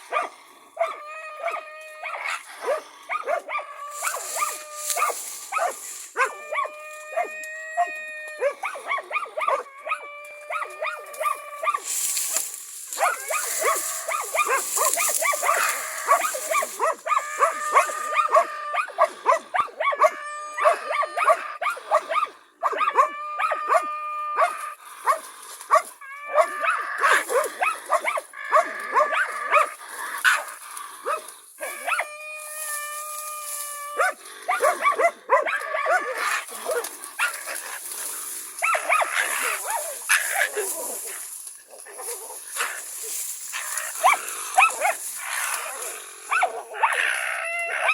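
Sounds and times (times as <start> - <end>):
dogs barking fast: 0.0 - 7.3, 8.4 - 32.2, 33.9 - 47.2
dogs howling: 0.0 - 47.9.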